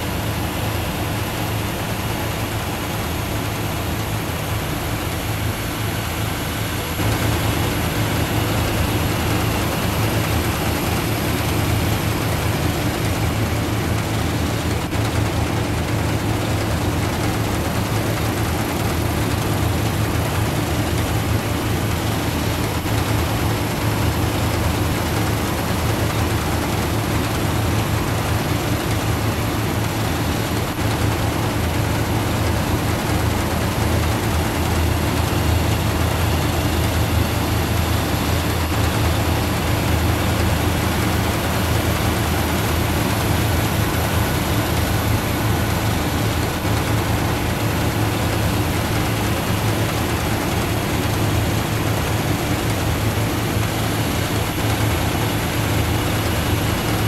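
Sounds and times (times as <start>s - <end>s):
heavy machinery engine running: 0.0s - 57.0s.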